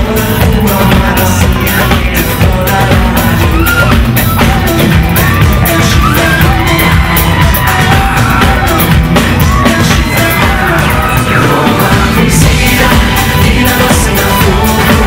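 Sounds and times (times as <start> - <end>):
drum beat: 0.0 - 15.0
loud pop music: 0.0 - 15.0
person singing: 0.0 - 15.0.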